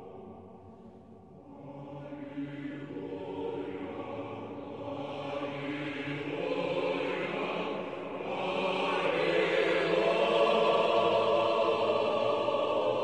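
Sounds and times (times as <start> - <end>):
church choir chanting: 0.0 - 13.0.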